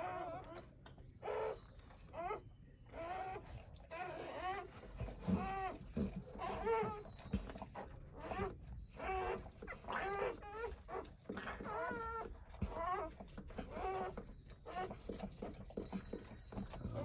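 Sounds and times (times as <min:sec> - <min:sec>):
puppies crying: 0:00.0 - 0:17.0.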